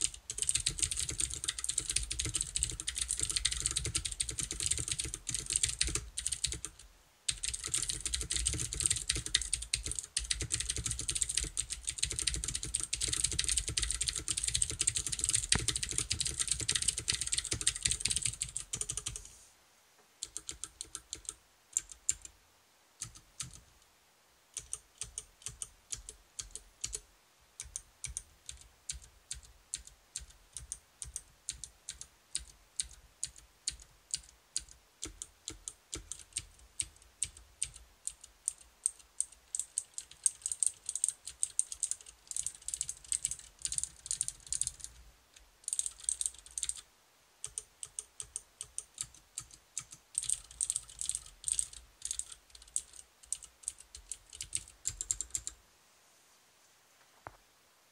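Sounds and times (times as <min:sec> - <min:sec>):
mechanical keyboard typing: 0:00.0 - 0:19.3, 0:20.2 - 0:22.3, 0:23.0 - 0:23.7, 0:24.6 - 0:27.0, 0:27.6 - 0:45.0, 0:45.6 - 0:46.8, 0:47.4 - 0:55.6.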